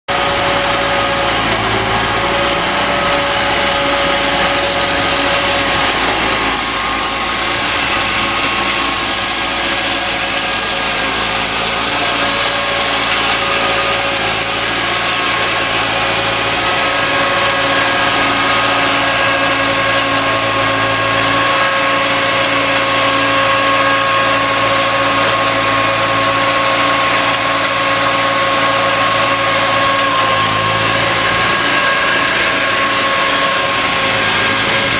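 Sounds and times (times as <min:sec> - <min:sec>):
engine whine and rumble: 0:00.1 - 0:34.9.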